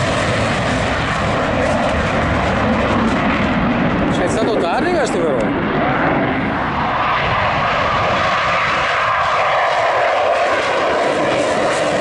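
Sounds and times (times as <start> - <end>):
jet taking off: 0.0 - 12.0.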